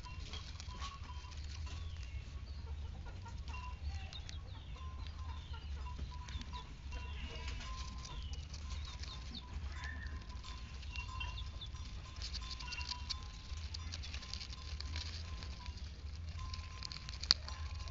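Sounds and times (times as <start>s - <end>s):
bird chirps: 0.0s - 16.9s
bird nibbling leaves: 0.0s - 17.9s.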